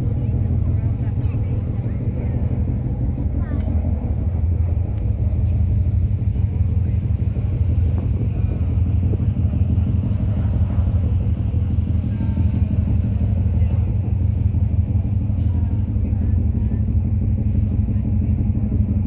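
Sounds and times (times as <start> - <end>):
ferry engines droning: 0.0 - 19.0.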